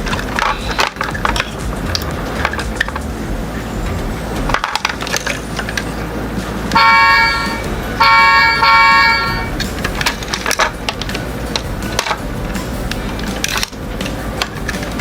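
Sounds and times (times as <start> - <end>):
horn honking: 0.0 - 15.0.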